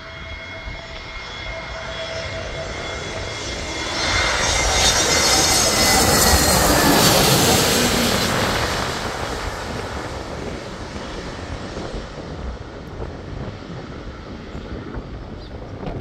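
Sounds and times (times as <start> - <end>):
jet airliner flying away: 0.0 - 16.0.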